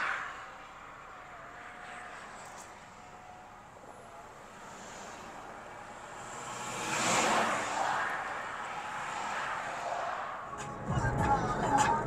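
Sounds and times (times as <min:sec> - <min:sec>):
vehicle passing on highway: 0:00.0 - 0:12.0.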